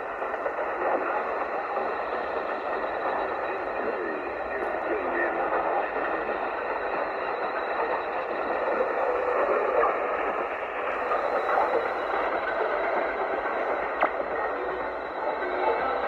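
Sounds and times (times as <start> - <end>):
faint radio broadcast: 0.0 - 16.0
radio static and hiss: 0.0 - 16.0.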